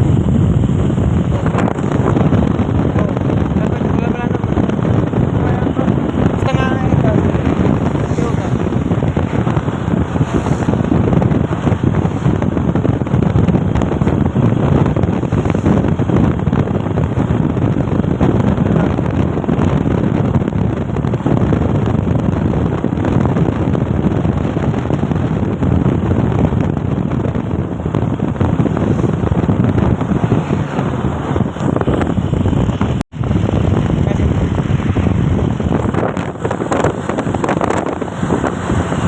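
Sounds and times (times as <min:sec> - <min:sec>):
truck engine and road noise: 0:00.0 - 0:39.0
wind buffeting microphone: 0:00.0 - 0:39.0.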